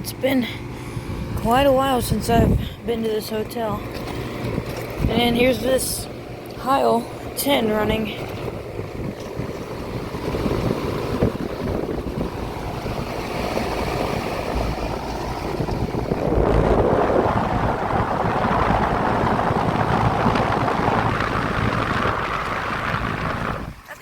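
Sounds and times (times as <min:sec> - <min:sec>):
air conditioner unit rushing: 0:00.0 - 0:24.0.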